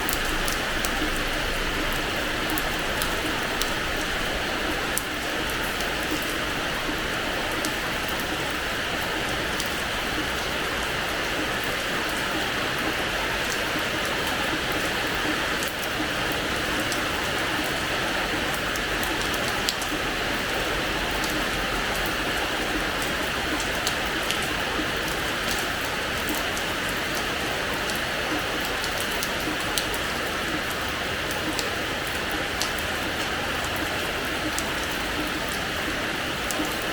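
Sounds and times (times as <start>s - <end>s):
rain on hard floor: 0.0s - 36.9s.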